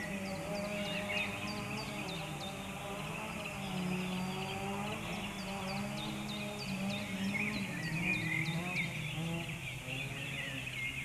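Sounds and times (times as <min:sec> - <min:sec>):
low engine drone: 0:00.0 - 0:11.0
small birds chirping: 0:00.0 - 0:11.0.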